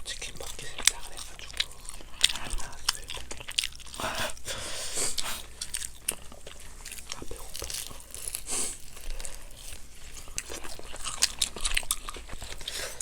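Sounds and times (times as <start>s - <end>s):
crisp crunches of chewing: 0.0s - 13.0s.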